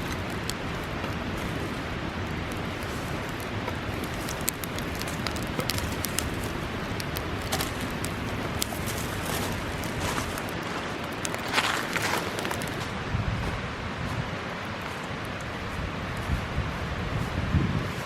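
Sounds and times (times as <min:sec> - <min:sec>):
sharp crackles and ticks: 0:00.0 - 0:12.9, 0:14.6 - 0:16.8
steady rushing noise: 0:00.0 - 0:18.0.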